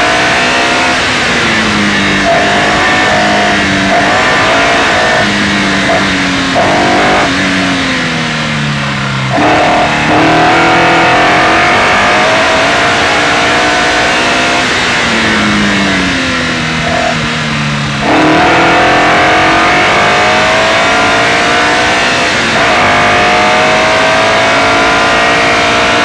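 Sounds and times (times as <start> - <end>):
car engine at full revs: 0.0 - 26.0
road noise: 0.0 - 26.0.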